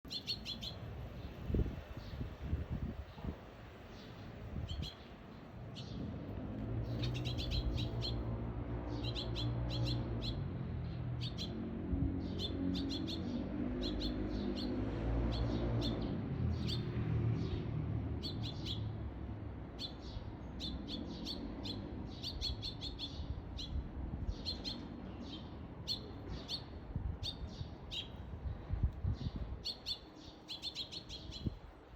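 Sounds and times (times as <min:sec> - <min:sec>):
sparrow chirping: 0:00.1 - 0:02.3, 0:03.0 - 0:06.2, 0:06.8 - 0:11.6, 0:12.2 - 0:18.9, 0:19.7 - 0:28.3, 0:29.1 - 0:31.7.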